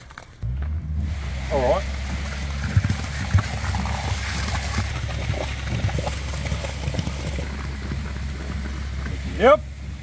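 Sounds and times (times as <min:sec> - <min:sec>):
concrete pump drone: 0:00.1 - 0:10.0
wet concrete sloshing and splattering: 0:01.1 - 0:09.9.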